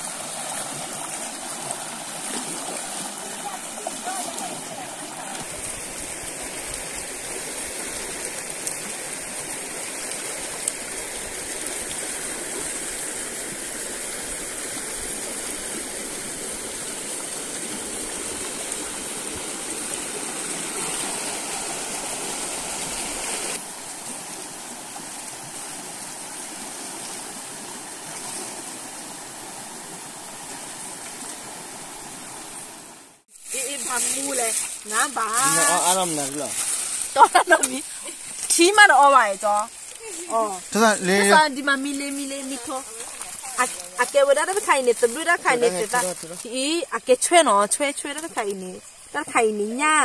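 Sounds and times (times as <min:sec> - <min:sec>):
stream water running over rocks: 0:00.0 - 0:50.0.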